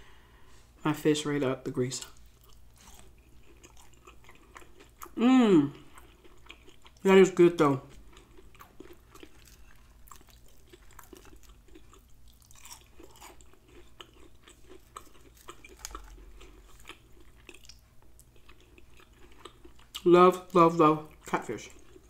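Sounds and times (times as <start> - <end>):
chewing and mouth sounds: 2.0 - 7.1, 7.8 - 22.0.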